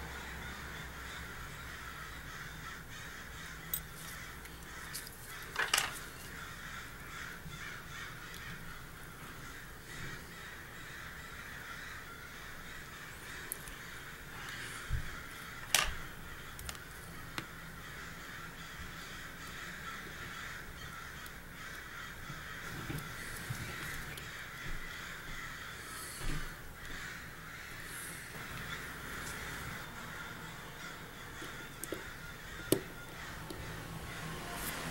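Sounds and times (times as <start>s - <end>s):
birds calling: 0.0s - 34.9s.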